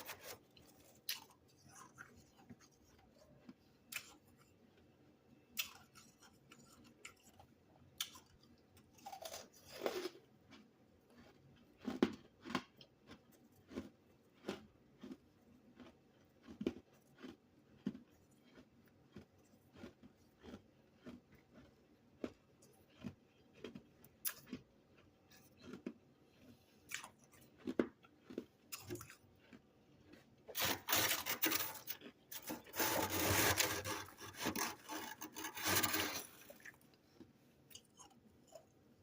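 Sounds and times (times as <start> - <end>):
freezer frost crunching: 0.0 - 4.5, 8.0 - 15.2, 15.8 - 38.8.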